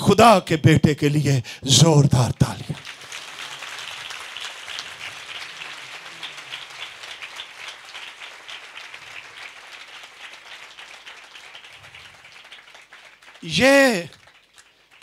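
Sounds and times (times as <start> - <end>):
crowd applauding: 2.7 - 15.0.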